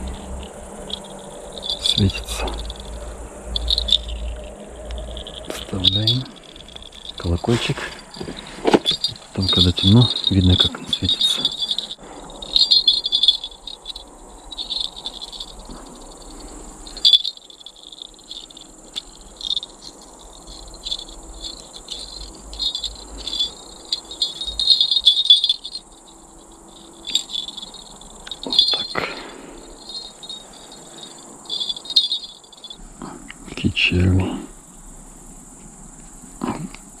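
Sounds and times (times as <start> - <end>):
small metal bells jingling: 0.0 - 32.9
night insects chirring: 0.0 - 37.0.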